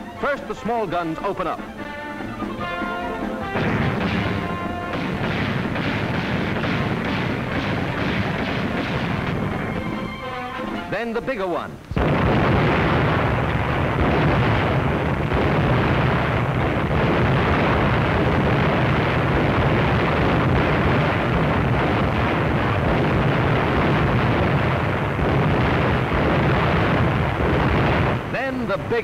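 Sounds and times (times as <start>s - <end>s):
guns firing in a barrage: 2.4s - 11.0s, 12.0s - 29.0s.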